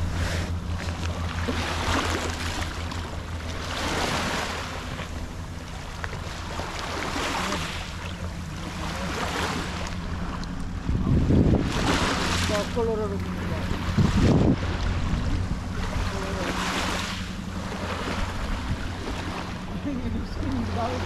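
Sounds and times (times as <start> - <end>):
small waves washing onto beach: 0.0 - 21.0
steady low hum: 0.0 - 21.0.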